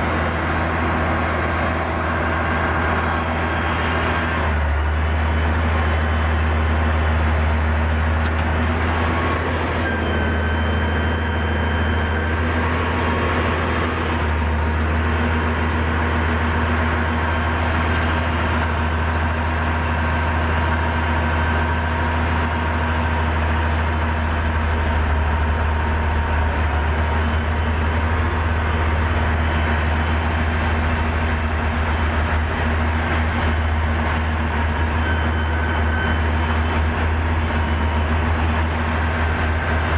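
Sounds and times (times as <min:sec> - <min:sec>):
diesel machinery low drone: 0:00.0 - 0:39.9.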